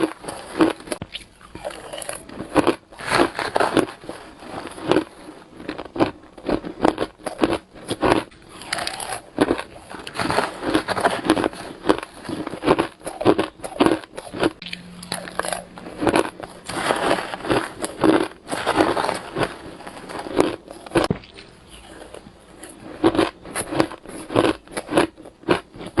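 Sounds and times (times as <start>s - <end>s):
crunchy ice being bitten: 0.0s - 26.0s.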